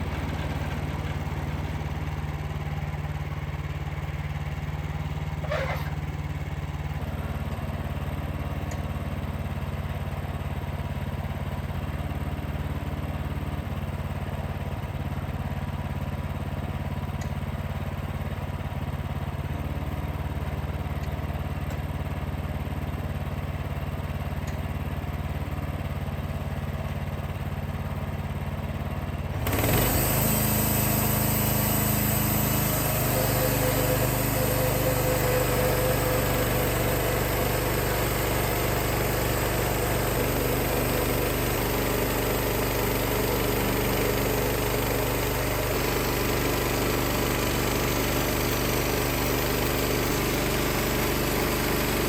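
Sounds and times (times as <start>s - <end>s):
sawmill engine running: 0.0s - 52.0s.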